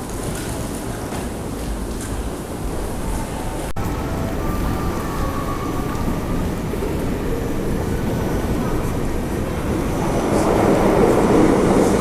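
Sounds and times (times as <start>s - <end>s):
train rumbling through tunnel: 0.0s - 12.0s.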